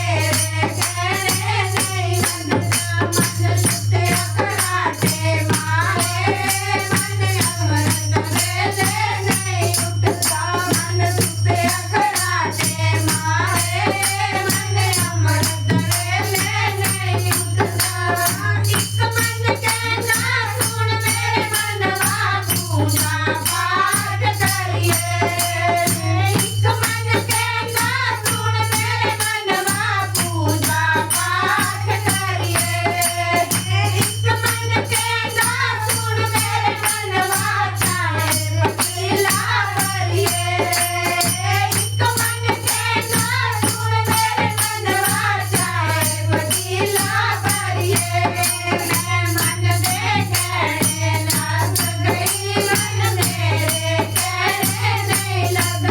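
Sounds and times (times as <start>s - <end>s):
rattling percussion beat: 0.0s - 55.9s
voices singing devotional song: 0.0s - 55.9s.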